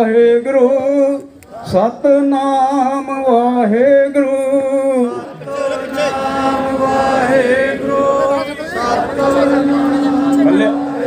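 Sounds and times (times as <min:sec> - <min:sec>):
man singing devotional chant: 0:00.0 - 0:11.0.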